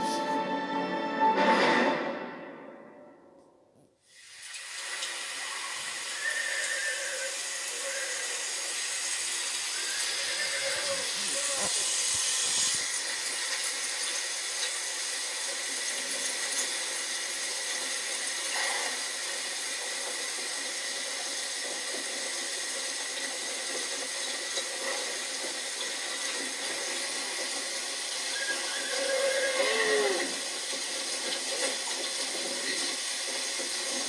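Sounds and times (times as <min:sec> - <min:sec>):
hiss of rain: 0:04.0 - 0:34.0.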